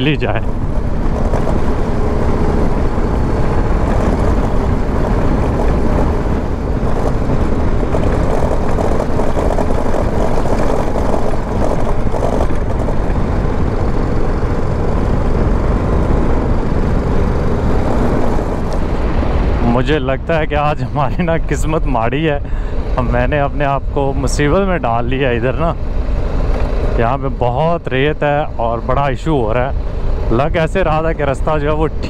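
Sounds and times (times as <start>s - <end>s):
motorcycle engine under load: 0.0s - 32.0s
rush of riding noise: 0.0s - 32.0s.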